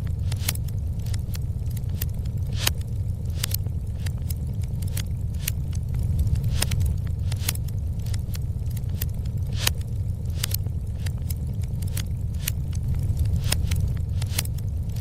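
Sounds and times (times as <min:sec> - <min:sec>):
low rumble: 0:00.0 - 0:15.0
wood fire crackling and popping: 0:00.0 - 0:15.0.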